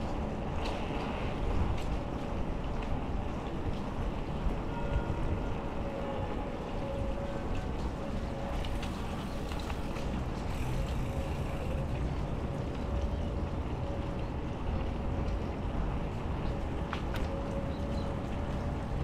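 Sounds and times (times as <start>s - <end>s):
bike tyre noise on wet path: 0.0s - 19.0s.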